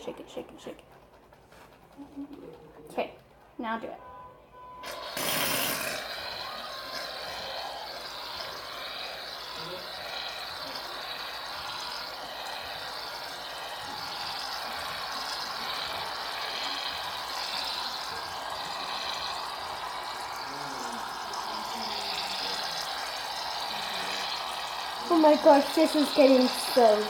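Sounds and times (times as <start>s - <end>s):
aerosol can spraying foam: 4.8s - 27.0s.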